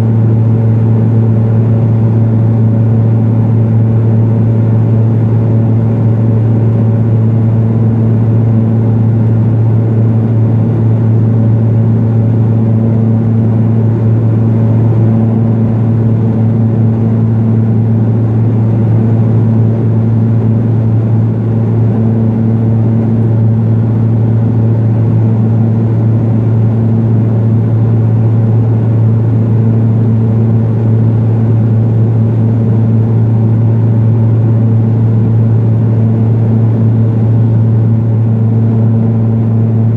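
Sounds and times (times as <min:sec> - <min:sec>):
turboprop engine steady hum: 0:00.0 - 0:39.9.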